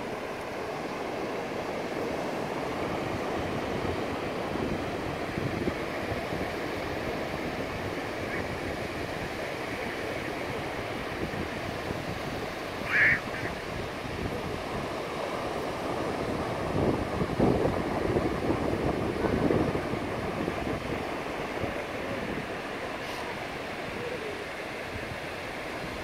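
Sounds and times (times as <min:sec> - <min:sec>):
surf breaking on a beach: 0:00.0 - 0:26.0
wind rumbling on microphone: 0:00.0 - 0:26.0.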